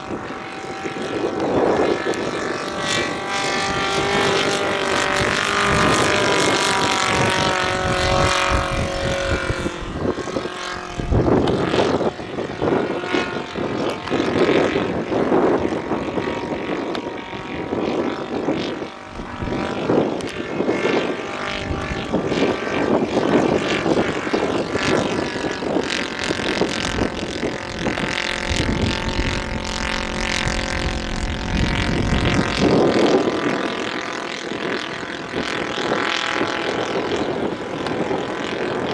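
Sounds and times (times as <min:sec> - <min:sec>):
model airplane engine in flight: 0:00.0 - 0:38.9.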